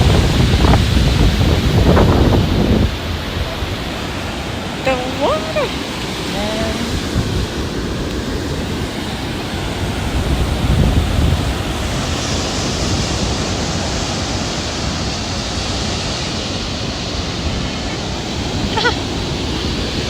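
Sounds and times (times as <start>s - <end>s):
ocean surf breaking: 0.0s - 20.0s
wind buffeting microphone: 0.0s - 20.0s.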